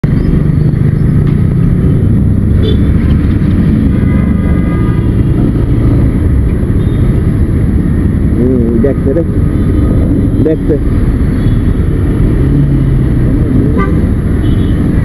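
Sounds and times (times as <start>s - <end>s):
motorcycle engine rumble: 0.0s - 15.0s
traffic noise: 0.0s - 15.0s.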